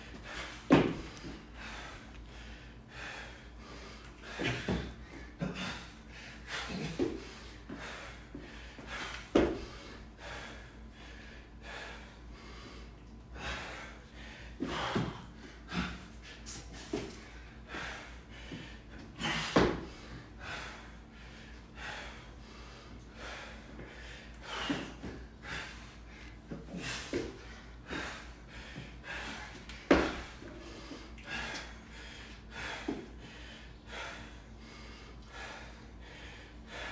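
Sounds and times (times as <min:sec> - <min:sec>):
man breathing hard: 0:00.0 - 0:36.9.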